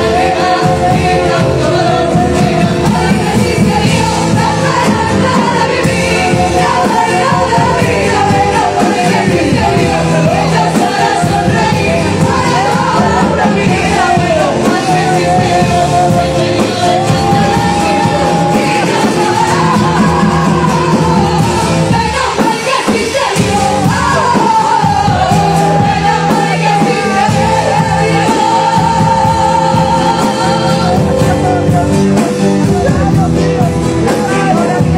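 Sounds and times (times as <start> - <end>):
full band playing: 0.0 - 34.9
people singing worship song: 0.0 - 34.9.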